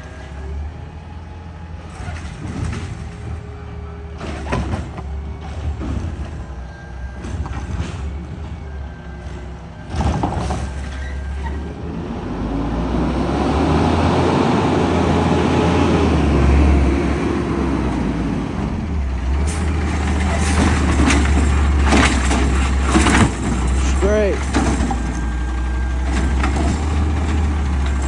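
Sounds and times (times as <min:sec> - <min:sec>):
garbage truck engine running: 0:00.0 - 0:28.0.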